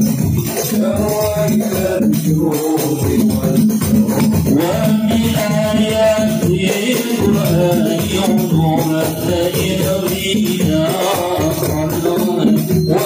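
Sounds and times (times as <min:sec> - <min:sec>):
men chanting a hymn over loudspeaker: 0:00.0 - 0:13.0.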